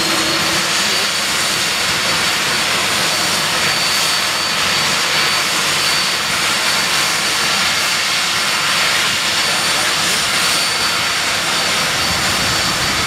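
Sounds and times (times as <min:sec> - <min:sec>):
high-pitched engine whine: 0:00.0 - 0:13.0
jet engines rushing: 0:00.0 - 0:13.0.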